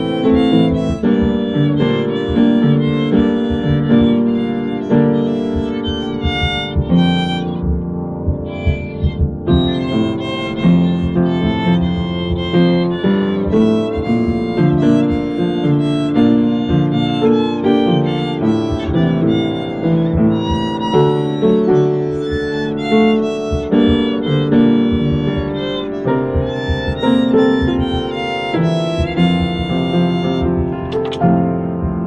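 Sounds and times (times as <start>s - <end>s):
upright piano accompaniment: 0.0s - 32.0s
violin playing pop melody: 0.0s - 32.0s.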